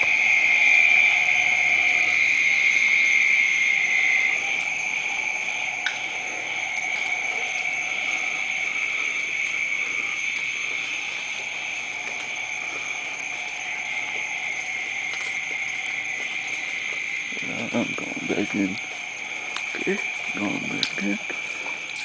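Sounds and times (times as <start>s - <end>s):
night animals calling: 0.0s - 22.0s.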